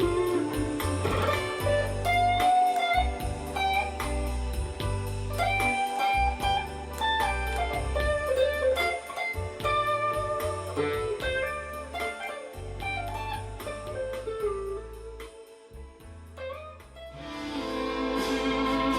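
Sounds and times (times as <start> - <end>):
backing track with bass and beat: 0.0 - 18.9
blues guitar lead: 0.0 - 18.9.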